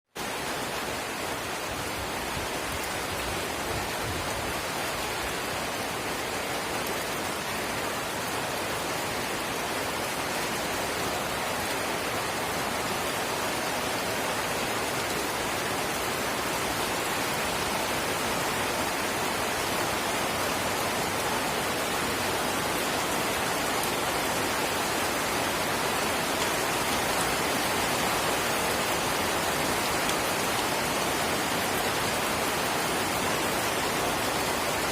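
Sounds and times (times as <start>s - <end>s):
light drizzle falling: 0.2s - 34.9s.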